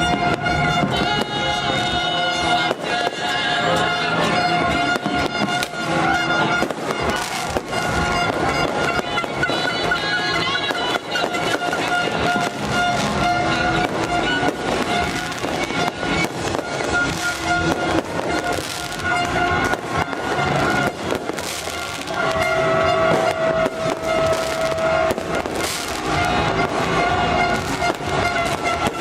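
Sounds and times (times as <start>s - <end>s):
fireworks cracking and popping: 0.0s - 29.0s.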